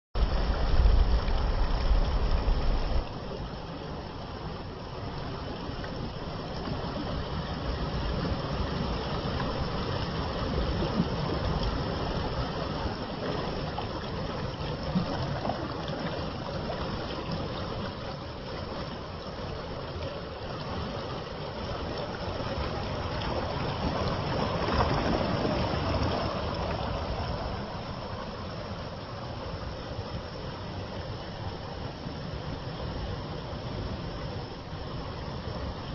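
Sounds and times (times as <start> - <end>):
water rushing: 0.2 - 35.9.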